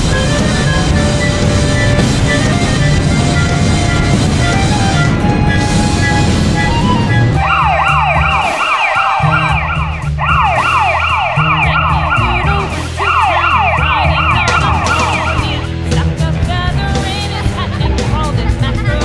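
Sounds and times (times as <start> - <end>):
police siren wailing: 0.0 - 15.7
background music: 0.0 - 19.0.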